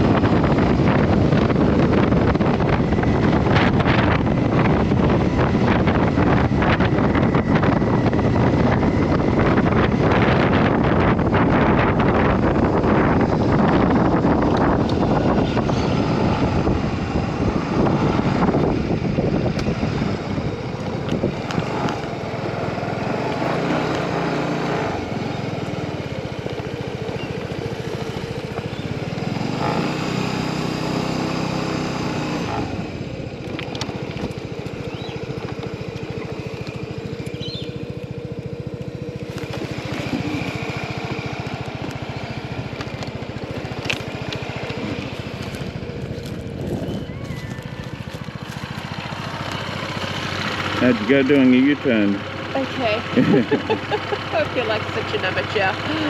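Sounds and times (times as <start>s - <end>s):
wind on microphone: 0.0s - 50.8s
motorcycle engine revving: 0.0s - 56.0s.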